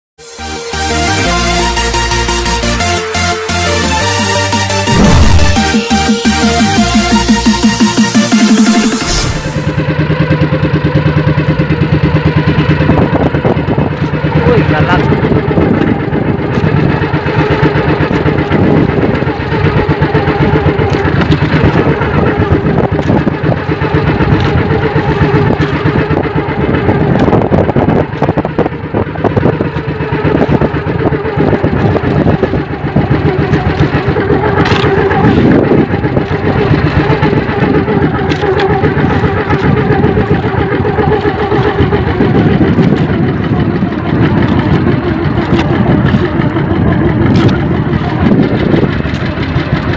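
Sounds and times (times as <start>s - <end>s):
boat engine running: 0.2s - 49.9s.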